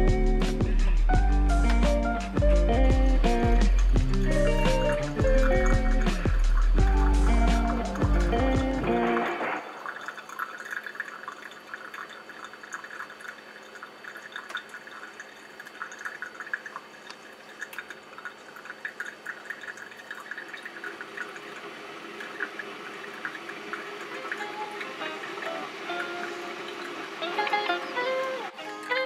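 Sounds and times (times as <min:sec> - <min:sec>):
coffee trickling into milk: 0:03.6 - 0:29.0.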